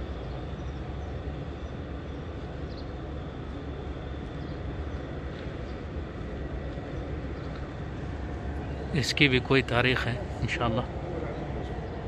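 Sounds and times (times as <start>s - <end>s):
faint thin steady whine: 0.0s - 12.0s
low rumble and hiss of hall: 0.0s - 12.0s.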